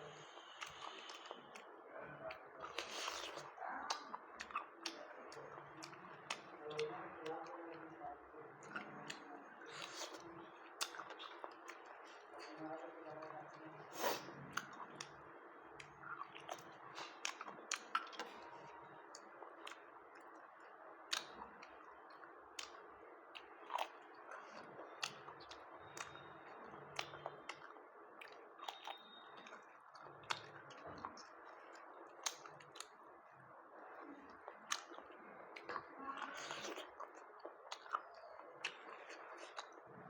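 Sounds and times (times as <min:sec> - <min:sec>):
person chewing with mouth open: 0:00.1 - 0:07.0, 0:08.6 - 0:12.6, 0:13.9 - 0:33.0, 0:34.2 - 0:39.9.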